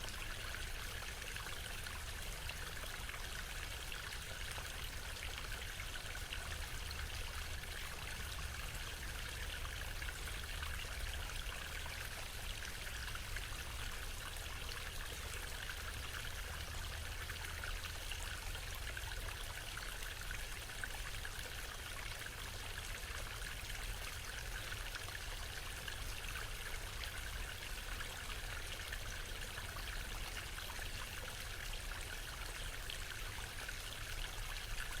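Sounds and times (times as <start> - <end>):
low rumble of water: 0.0 - 35.0.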